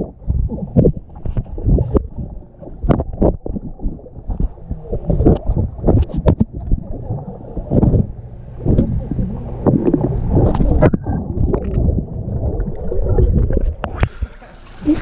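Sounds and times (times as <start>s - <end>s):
pool water splashing: 0.0s - 15.0s
wind buffeting microphone: 0.0s - 15.0s.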